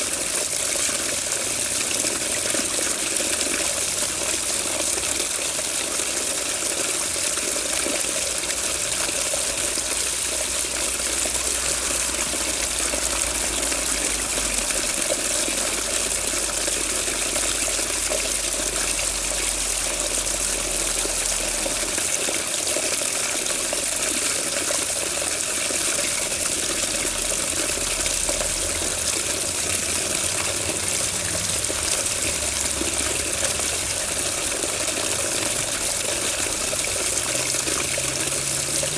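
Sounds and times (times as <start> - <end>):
running water gushing: 0.0 - 38.9.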